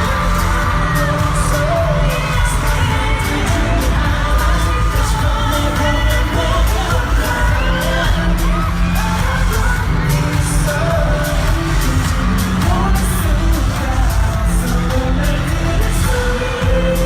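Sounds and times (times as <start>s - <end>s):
driving pop beat: 0.0s - 17.0s
man singing: 0.0s - 17.0s.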